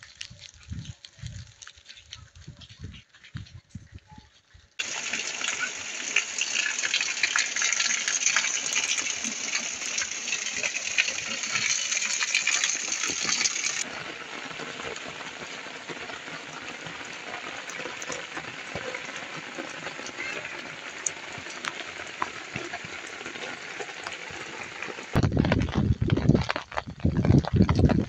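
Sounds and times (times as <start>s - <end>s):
heavy rain on pavement: 4.8s - 28.0s.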